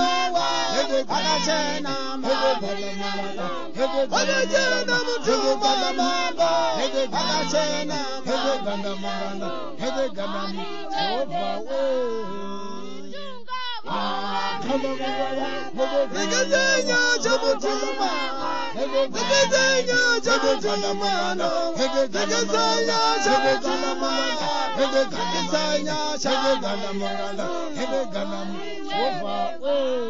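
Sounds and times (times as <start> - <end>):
choir chanting: 0.0 - 30.0.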